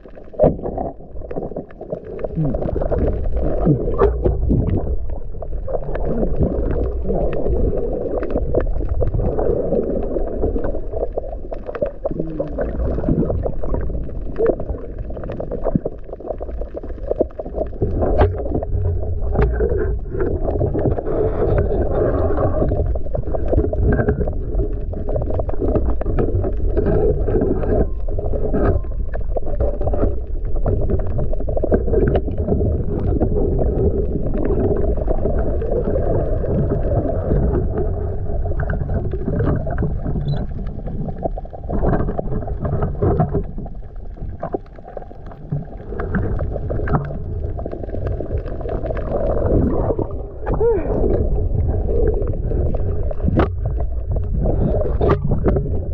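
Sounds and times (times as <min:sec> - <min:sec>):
muffled underwater rumble: 0:00.0 - 0:55.9
rising gurgle: 0:00.0 - 0:55.9
small clicks and crackles: 0:00.0 - 0:55.9.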